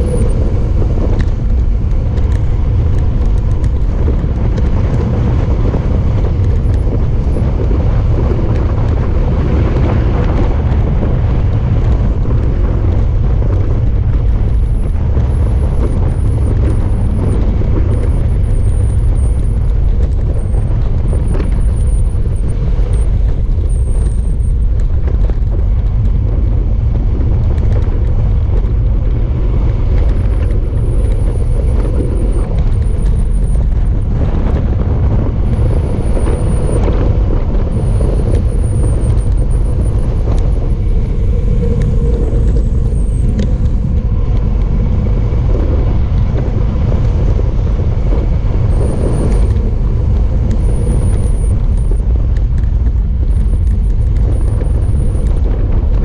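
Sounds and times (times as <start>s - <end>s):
bike tyres on asphalt: 0.0s - 56.0s
wind rushing over microphone: 0.0s - 56.0s.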